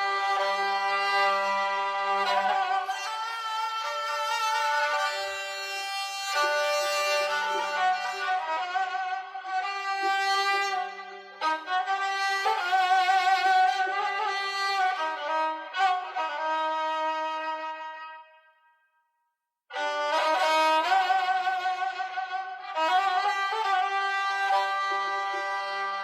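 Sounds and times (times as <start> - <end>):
slow violin melody: 0.0 - 18.4, 19.7 - 26.0.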